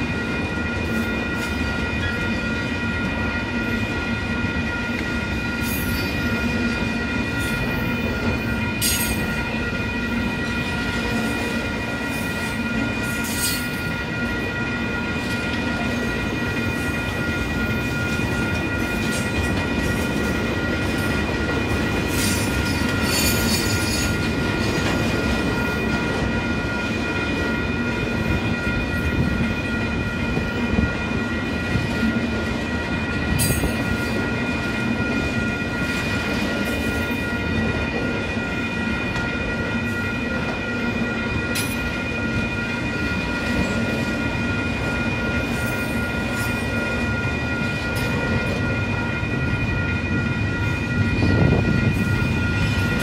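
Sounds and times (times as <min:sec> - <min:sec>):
high-pitched ringing tone: 0:00.0 - 0:53.0
train wheels rumbling on rail: 0:00.0 - 0:53.0.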